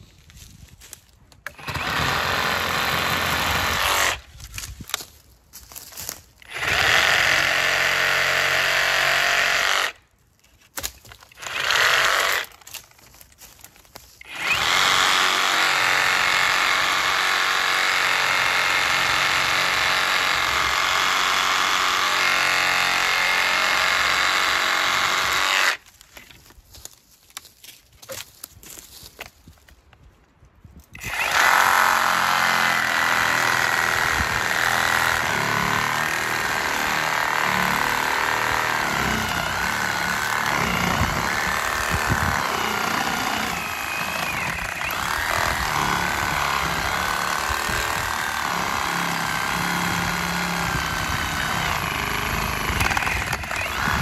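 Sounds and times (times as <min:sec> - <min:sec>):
reciprocating saw cutting limbs: 0:01.4 - 0:05.0, 0:06.0 - 0:10.0, 0:10.7 - 0:25.9, 0:31.0 - 0:54.0.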